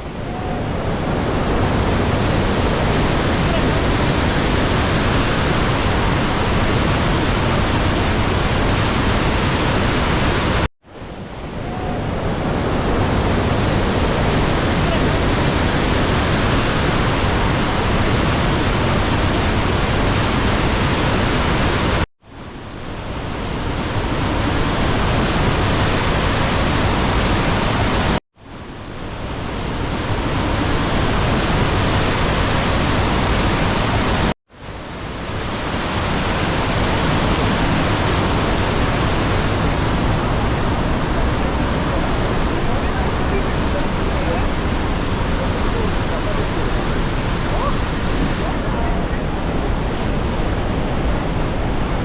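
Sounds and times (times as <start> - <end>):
waterfall roaring: 0.0 - 22.0, 23.0 - 28.2, 29.0 - 52.0.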